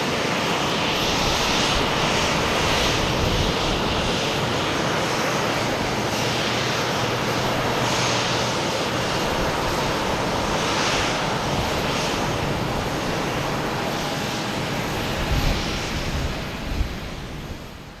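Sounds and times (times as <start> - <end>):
jet airliner engines running: 0.0 - 18.0.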